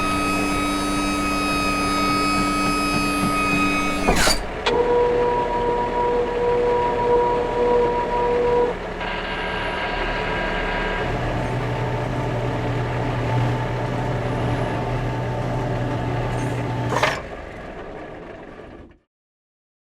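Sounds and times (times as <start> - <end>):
low hum: 0.0 - 18.9
heavy truck engine running: 0.0 - 19.1.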